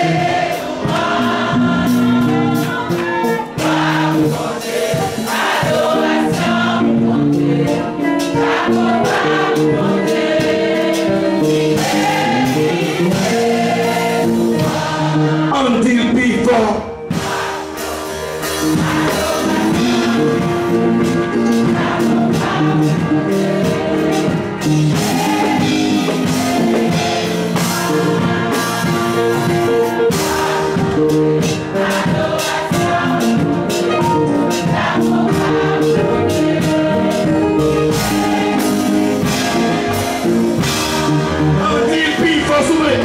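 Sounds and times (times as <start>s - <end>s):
group singing a gospel hymn: 0.0s - 43.0s
instrumental accompaniment with beat: 0.0s - 43.0s.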